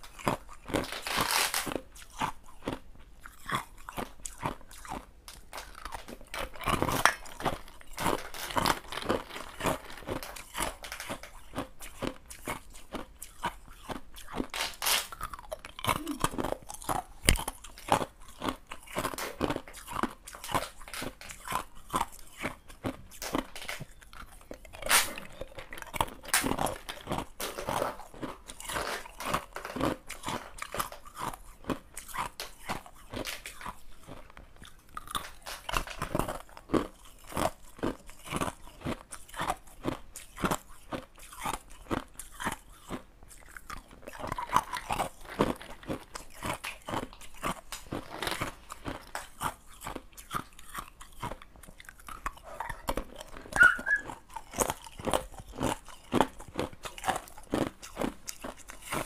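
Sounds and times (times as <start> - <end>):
ice cubes being chewed: 0.0 - 59.0.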